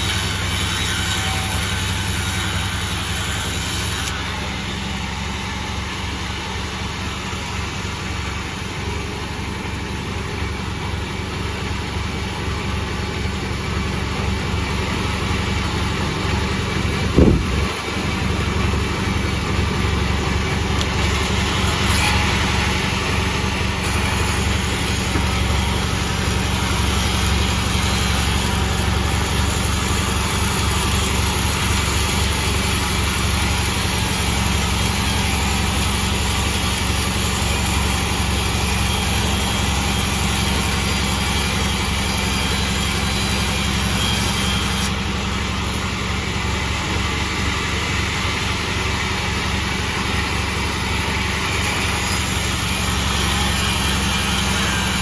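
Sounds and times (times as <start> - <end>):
sawmill machine droning: 0.0 - 55.0.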